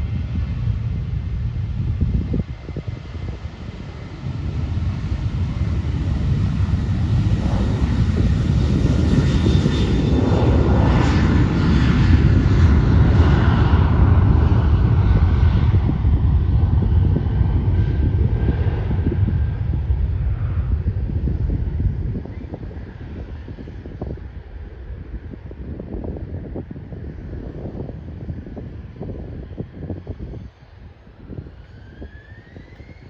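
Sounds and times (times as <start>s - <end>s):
jet engines roaring at takeoff: 0.0s - 33.0s.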